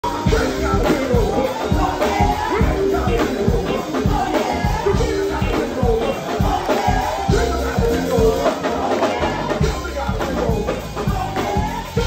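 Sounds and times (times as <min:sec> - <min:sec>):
band playing dance music: 0:00.0 - 0:12.0
drum beat: 0:00.0 - 0:12.0
person singing: 0:00.0 - 0:12.0.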